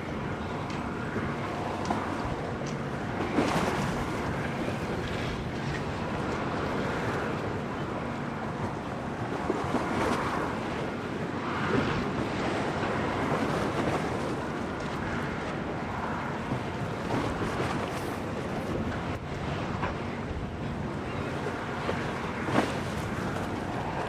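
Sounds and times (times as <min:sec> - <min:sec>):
sea waves washing in: 0:00.0 - 0:24.0
storm wind: 0:00.0 - 0:24.0
wind buffeting microphone: 0:00.0 - 0:24.0.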